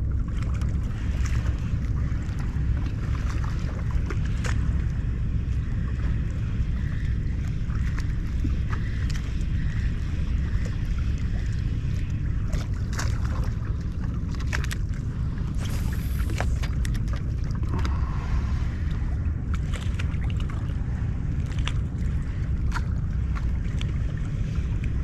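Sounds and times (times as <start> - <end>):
water lapping against hull: 0.0 - 25.0
wind rumbling on microphone: 0.0 - 25.0.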